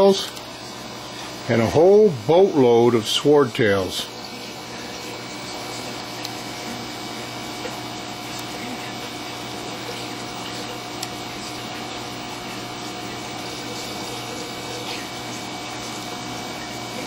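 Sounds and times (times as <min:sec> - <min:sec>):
aquarium pump hum: 0:00.0 - 0:17.0.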